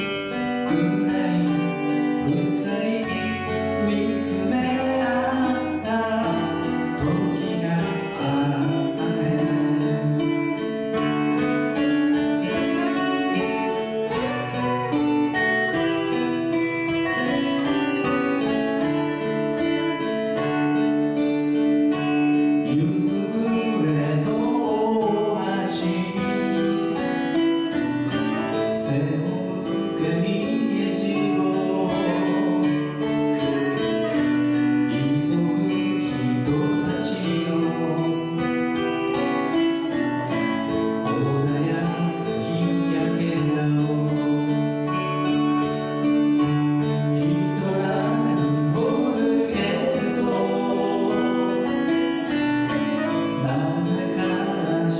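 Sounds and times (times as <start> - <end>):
acoustic guitars playing: 0.0 - 54.9
man singing: 0.0 - 54.9.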